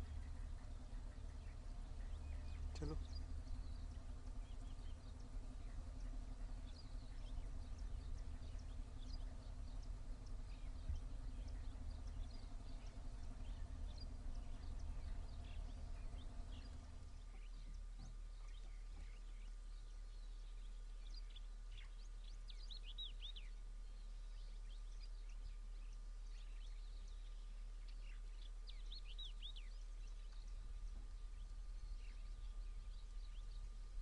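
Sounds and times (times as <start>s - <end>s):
bird chirps: 0.0s - 34.0s
low hum: 0.0s - 34.0s.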